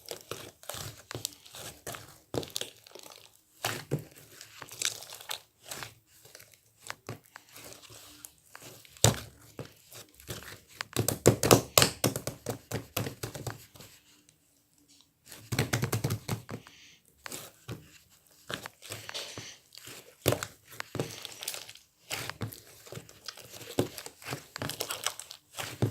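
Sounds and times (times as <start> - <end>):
slime squished by hand: 0.0 - 13.7, 17.3 - 25.9.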